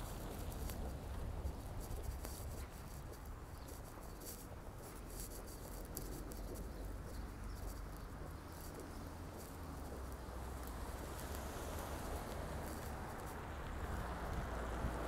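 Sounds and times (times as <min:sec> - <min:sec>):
footsteps crunching on snow: 0:00.0 - 0:15.0.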